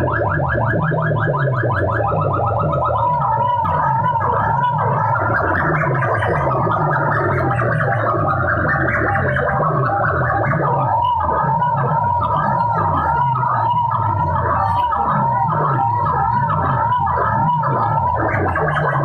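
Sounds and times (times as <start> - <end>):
distorted music over loudspeakers: 0.0 - 19.0
wavering siren-like tone: 0.0 - 19.0.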